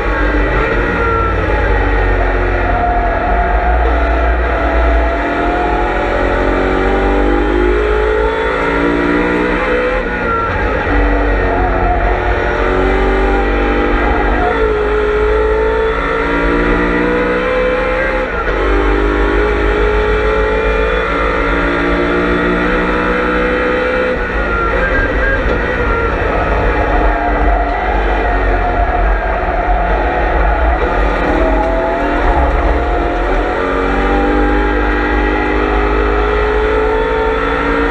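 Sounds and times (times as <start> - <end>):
race car engine accelerating: 0.0 - 37.9.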